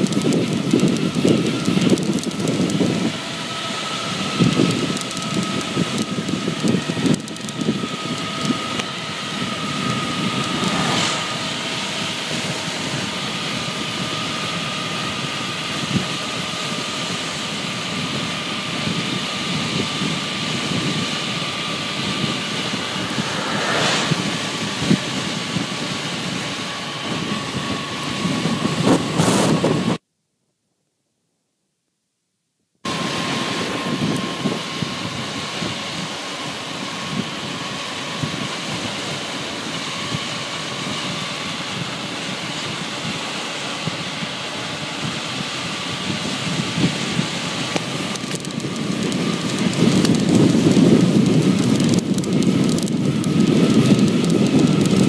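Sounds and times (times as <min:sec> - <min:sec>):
wind rushing over microphone: 0:00.0 - 0:30.0, 0:32.9 - 0:36.2, 0:36.8 - 0:55.0.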